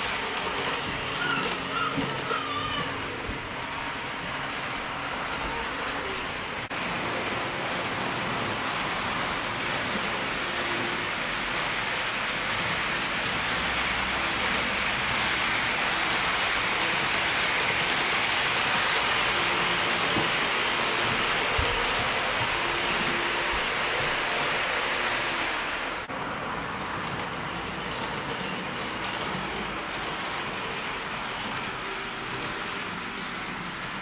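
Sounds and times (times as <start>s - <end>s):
model train wheels rolling on rails: 0.0s - 34.0s.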